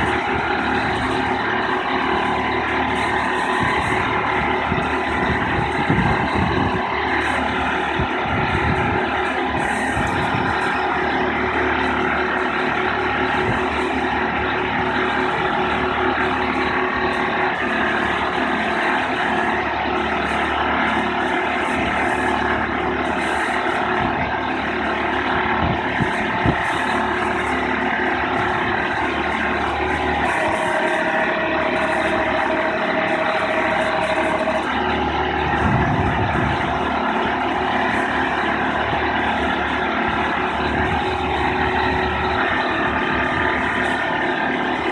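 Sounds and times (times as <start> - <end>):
engine and hydraulic hoist running: 0.0 - 44.9
high whine: 0.0 - 44.9.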